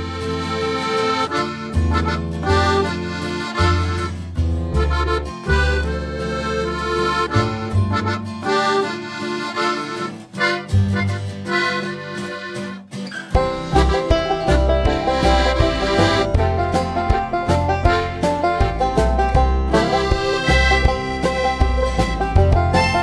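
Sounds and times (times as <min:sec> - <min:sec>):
instrumental background music: 0:00.0 - 0:23.0.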